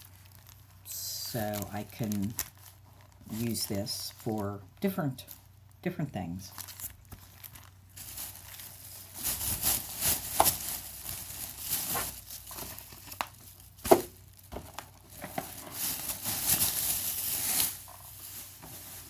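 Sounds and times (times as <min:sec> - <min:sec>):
shopping bag rustling: 0:00.0 - 0:04.6, 0:06.4 - 0:19.0.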